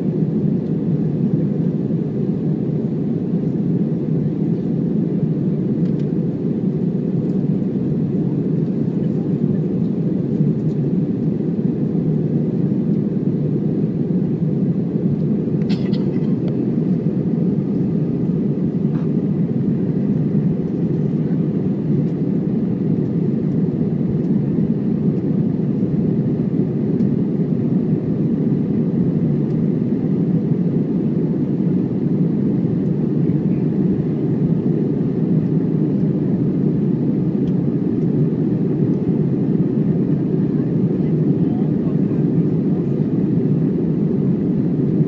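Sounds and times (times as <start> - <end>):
airplane cabin engine rumble: 0.0 - 45.0.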